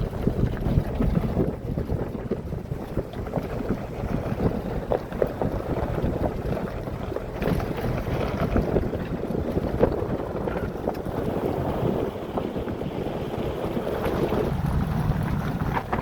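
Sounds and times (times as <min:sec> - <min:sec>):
body and suspension rattles: 0:00.0 - 0:16.0
pickup engine and tyres rumbling: 0:00.0 - 0:16.0.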